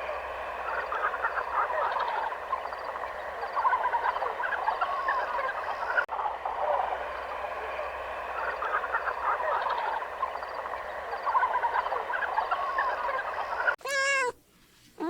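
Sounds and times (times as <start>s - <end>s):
chorus of animals chattering: 0.0s - 14.3s.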